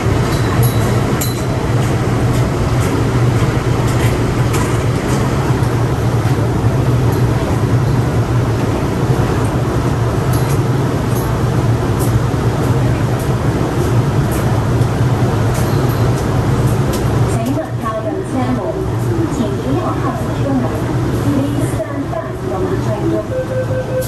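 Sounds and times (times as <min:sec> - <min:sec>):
train carriage rumble: 0:00.0 - 0:24.0.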